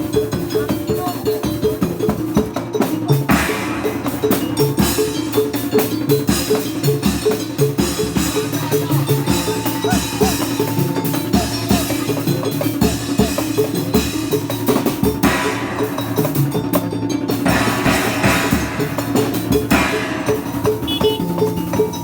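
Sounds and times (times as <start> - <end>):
drums and percussion: 0.0 - 22.0.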